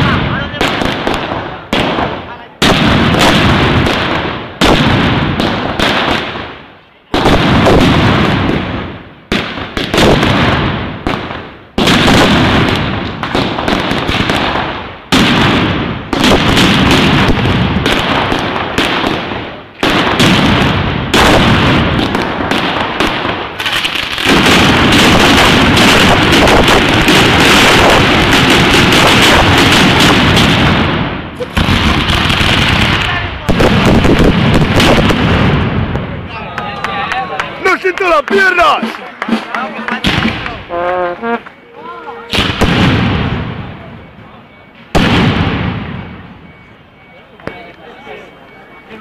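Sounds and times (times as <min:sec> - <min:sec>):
firecrackers banging: 0:00.0 - 0:49.0.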